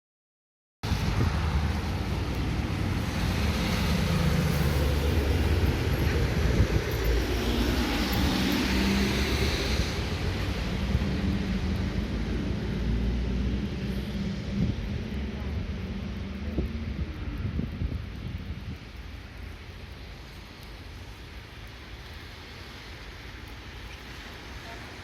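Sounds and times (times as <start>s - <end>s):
low rumble: 0.8s - 21.1s.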